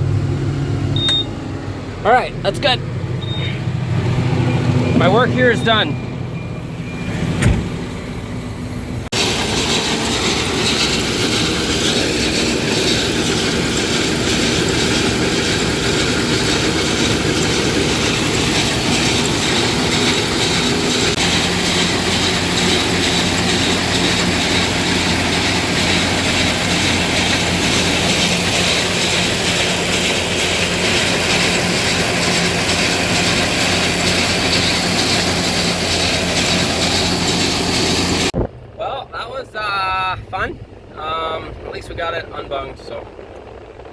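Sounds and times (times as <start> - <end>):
large machine engine running: 0.0 - 38.4.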